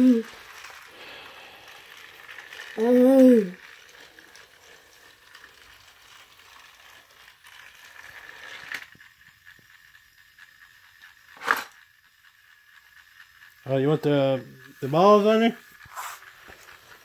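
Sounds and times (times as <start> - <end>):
toy train whirring and rattling: 0.0 - 17.0
plastic toy clack: 1.7 - 17.0.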